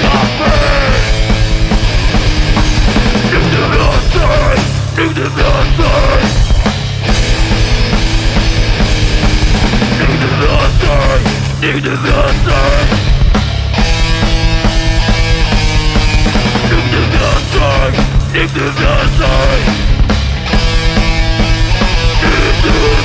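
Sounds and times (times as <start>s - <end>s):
hardcore punk band playing: 0.0s - 23.0s.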